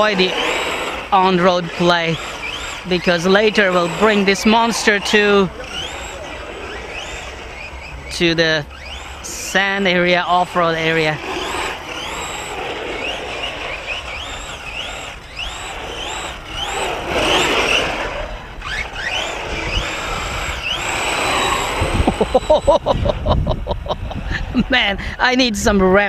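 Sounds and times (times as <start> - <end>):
tyres on pavement: 0.0 - 23.0
electric motor whining: 0.0 - 25.0.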